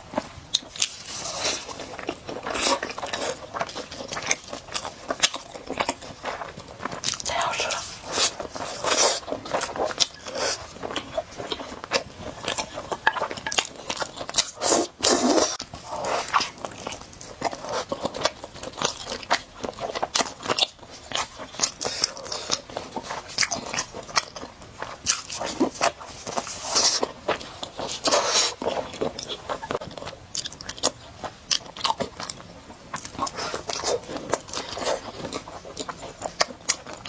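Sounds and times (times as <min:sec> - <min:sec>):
close chewing and crunching: 0:00.0 - 0:37.0.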